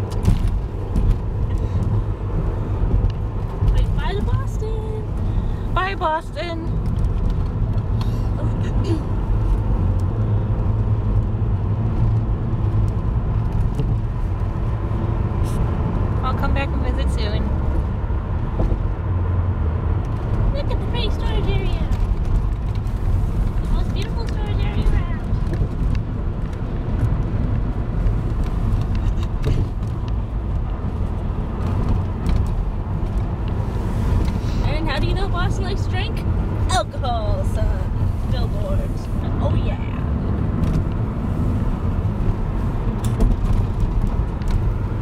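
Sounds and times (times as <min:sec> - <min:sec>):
car road and engine rumble: 0:00.0 - 0:45.0.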